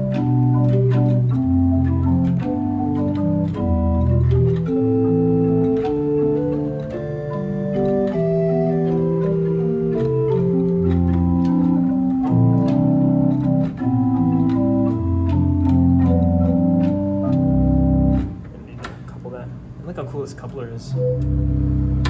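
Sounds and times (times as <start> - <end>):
pipe organ playing chords: 0.0 - 18.5, 20.9 - 22.0.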